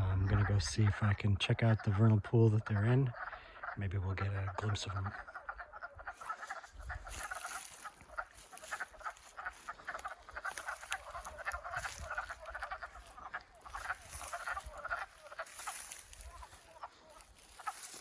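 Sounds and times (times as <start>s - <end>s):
frogs clucking chorus: 0.0s - 18.0s.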